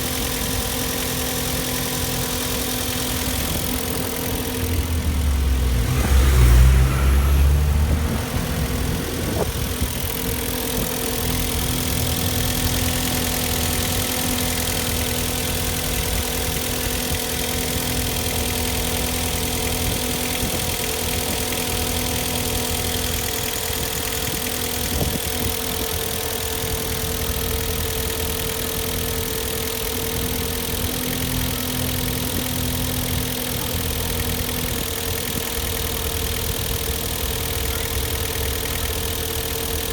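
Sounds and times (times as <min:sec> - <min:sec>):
petrol engine idling: 0:00.0 - 0:39.9.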